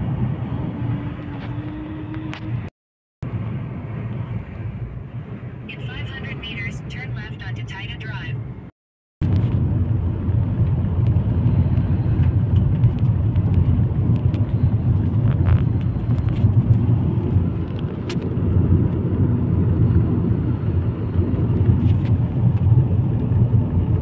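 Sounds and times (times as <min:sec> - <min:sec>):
car driving interior rumble: 0:00.0 - 0:24.0.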